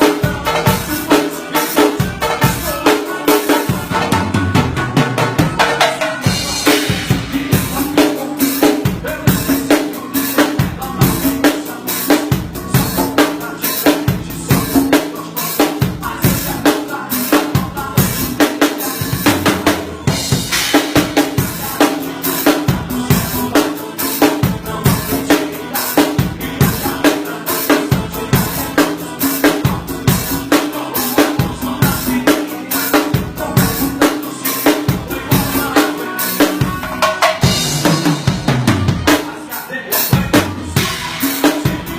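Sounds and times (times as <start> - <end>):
drum kit groove: 0.0 - 41.9
music: 0.0 - 41.9.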